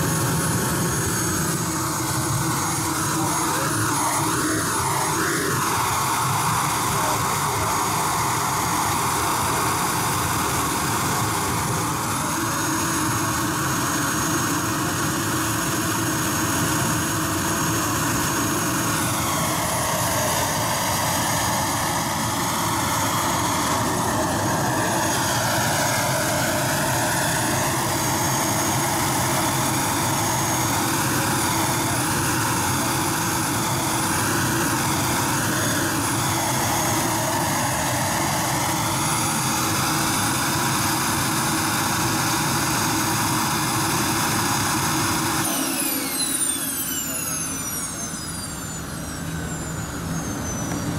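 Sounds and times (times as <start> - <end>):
jet turbine roaring with whine: 0.0 - 50.9.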